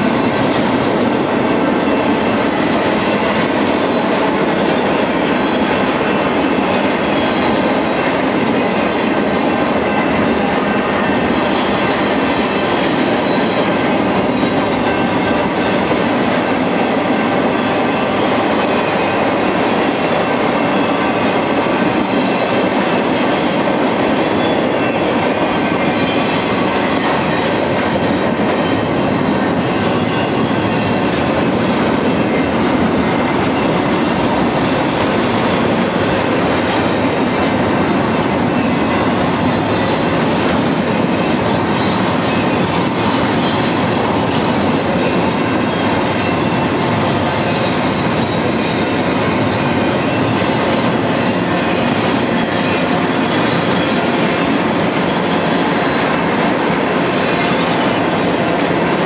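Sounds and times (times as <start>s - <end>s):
freight train rolling past: 0.0s - 59.0s
steel wheels clattering on rails: 0.0s - 59.0s.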